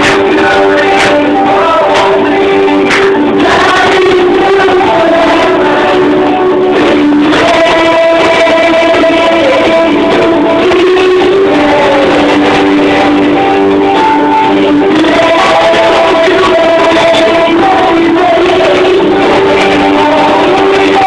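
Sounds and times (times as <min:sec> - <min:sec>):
children singing: 0:00.0 - 0:21.0
instrumental backing: 0:00.0 - 0:21.0.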